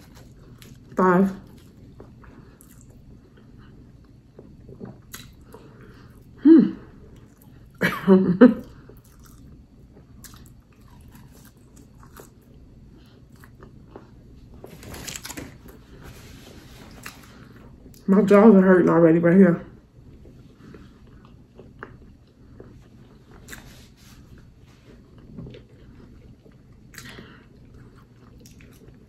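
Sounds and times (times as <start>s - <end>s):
chewing french fries: 0.0s - 7.8s, 8.6s - 16.1s, 16.8s - 18.1s, 19.8s - 29.0s.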